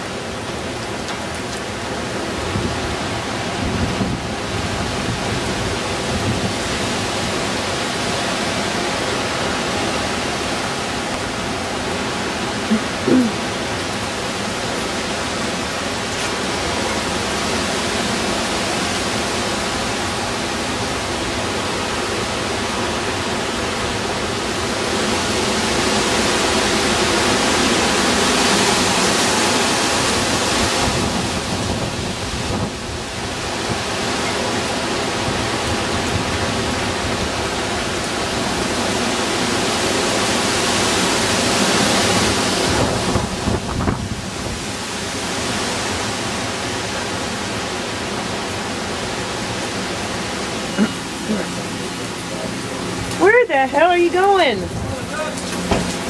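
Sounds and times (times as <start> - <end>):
hurricane wind and rain: 0.0 - 56.0.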